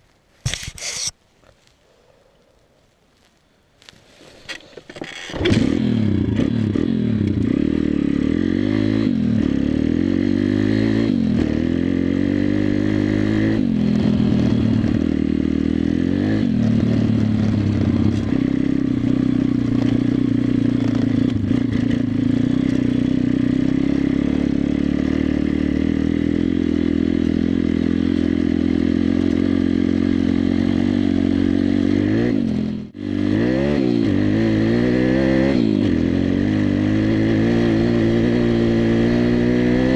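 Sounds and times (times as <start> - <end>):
motorbike engine revving: 5.0 - 39.9.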